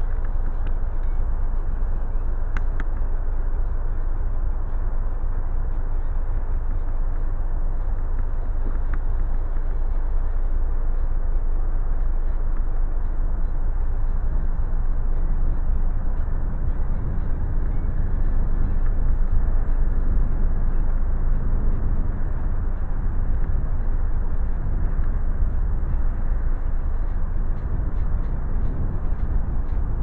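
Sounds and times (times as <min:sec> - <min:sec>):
bicycle riding rumble: 0:00.0 - 0:30.0
wind buffeting microphone: 0:00.0 - 0:30.0.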